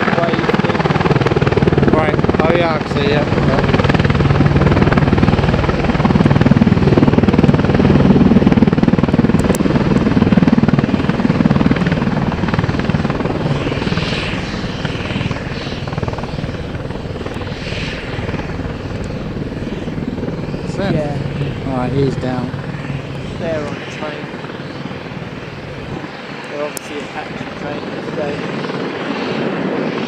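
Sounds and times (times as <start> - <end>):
helicopter hovering: 0.0 - 30.0.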